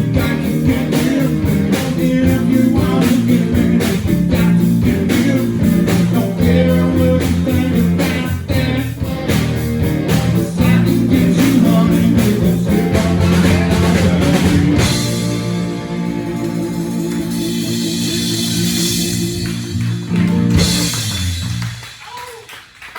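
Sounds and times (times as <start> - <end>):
guitar chords ringing: 0.0 - 21.6
rock band playing live: 0.0 - 22.2.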